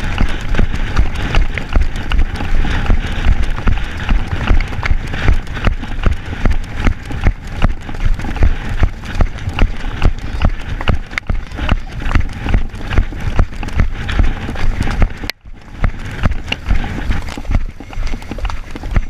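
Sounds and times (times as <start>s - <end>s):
horse hoofbeats on grass: 0.0s - 19.0s
wind rumble on microphone: 0.0s - 19.0s.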